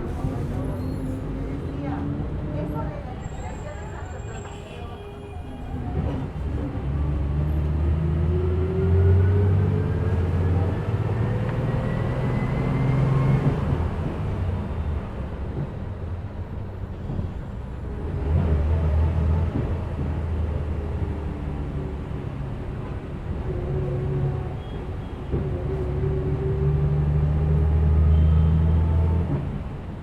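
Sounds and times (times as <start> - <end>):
bus engine hum with whine: 0.0 - 30.0.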